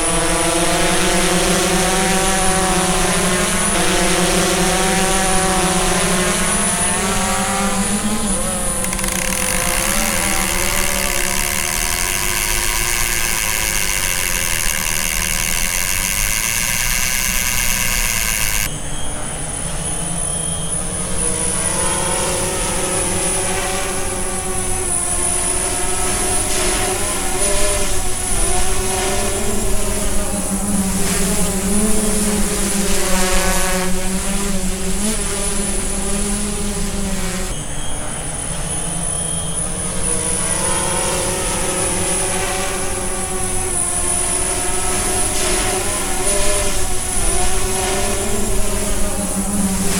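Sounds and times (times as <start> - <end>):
drone propellers whining: 0.0 - 49.9.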